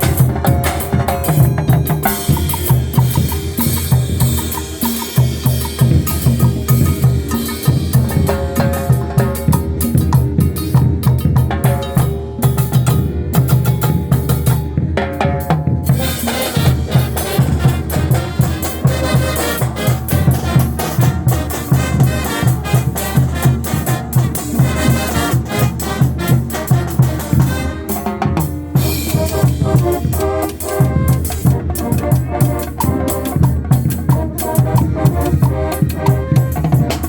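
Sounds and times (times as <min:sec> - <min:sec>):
band playing brass and drums: 0:00.0 - 0:37.0.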